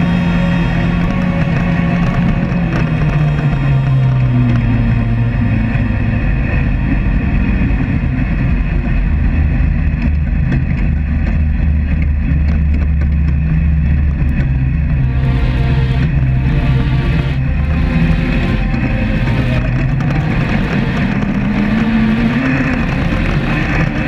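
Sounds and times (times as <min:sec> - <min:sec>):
dune buggy engine revving: 0:00.0 - 0:24.0.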